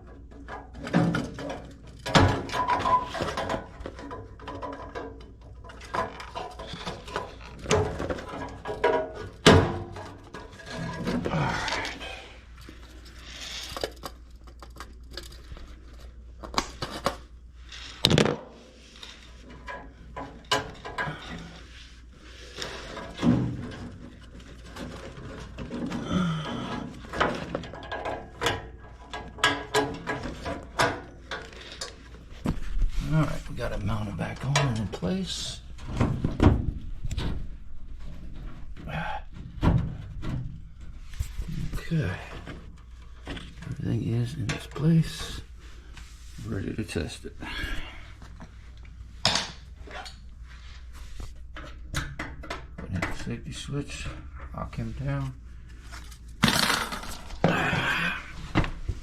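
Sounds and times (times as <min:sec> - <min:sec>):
knocks and rattles of handling parts: 0:00.0 - 0:59.0.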